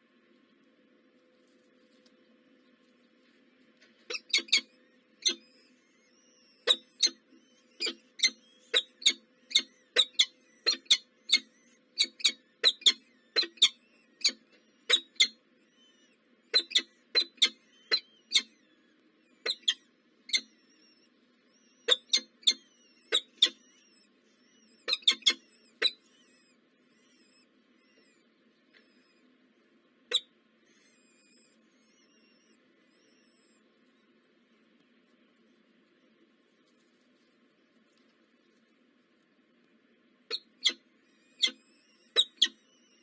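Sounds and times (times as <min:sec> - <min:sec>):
faint low hum: 0:00.0 - 0:43.0
small birds chirping: 0:00.1 - 0:43.0.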